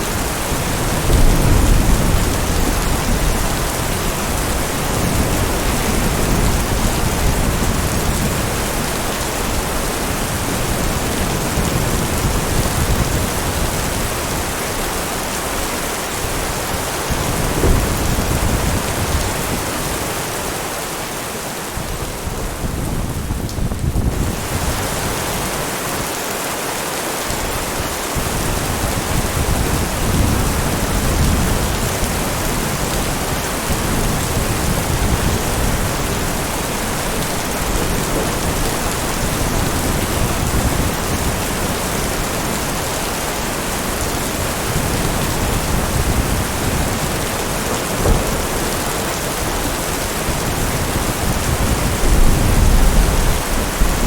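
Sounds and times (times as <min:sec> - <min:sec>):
thunder rumbling: 0:00.0 - 0:20.2, 0:28.2 - 0:54.0
heavy rain falling: 0:00.0 - 0:54.0.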